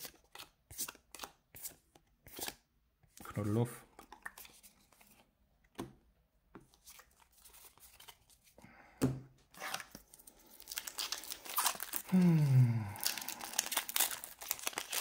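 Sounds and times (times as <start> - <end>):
cards rustling and sliding: 0.0 - 5.9, 6.6 - 8.6, 9.5 - 12.0, 13.1 - 15.0.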